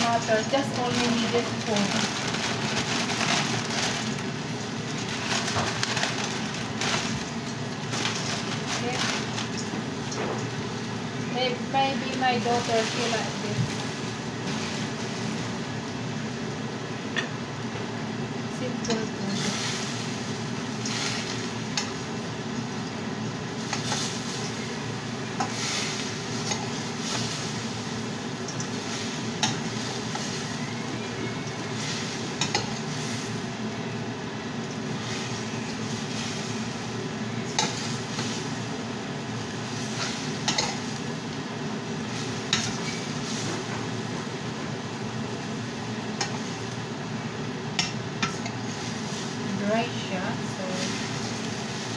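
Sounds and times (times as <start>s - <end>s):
noodles sizzling in frying pan: 0.0s - 51.9s.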